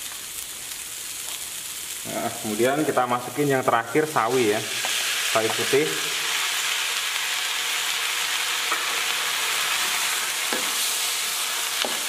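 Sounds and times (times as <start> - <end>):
frying sizzle in a pan: 0.0 - 12.0.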